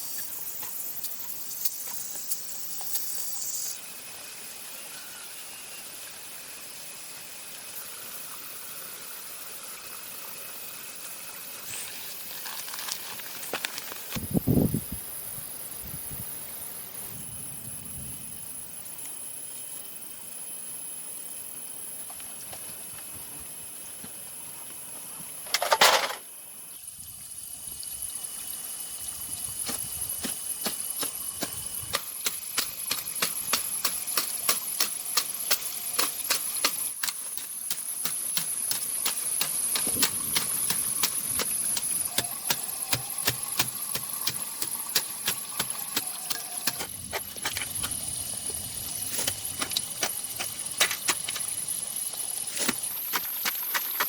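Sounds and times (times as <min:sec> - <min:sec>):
high-pitched insect drone: 0:00.0 - 0:25.6, 0:26.2 - 0:54.0.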